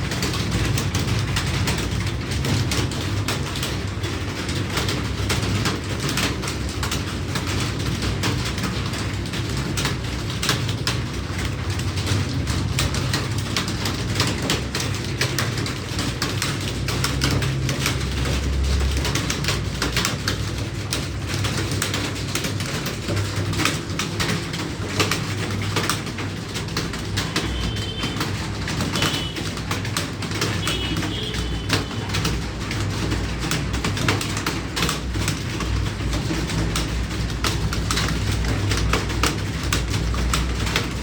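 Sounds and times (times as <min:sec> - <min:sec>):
computer keyboards clattering: 0:00.0 - 0:41.0.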